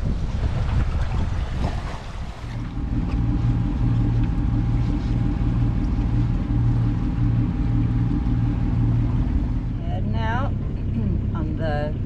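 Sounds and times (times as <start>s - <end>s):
rushing water: 0.0s - 9.8s
wind buffeting microphone: 0.0s - 11.8s
boat engine humming: 0.0s - 12.0s.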